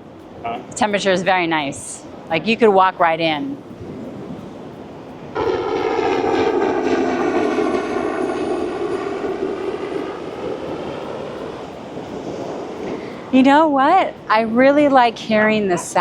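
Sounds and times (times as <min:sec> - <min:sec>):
aircraft engine overhead: 0:00.0 - 0:16.0.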